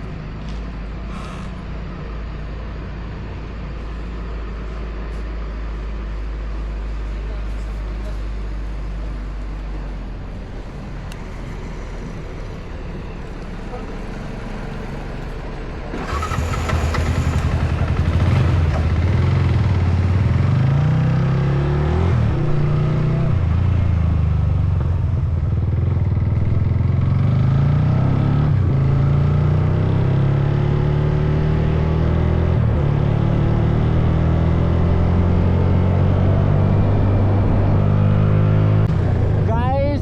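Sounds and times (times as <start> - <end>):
motorcycle engine running: 6.5 - 40.0.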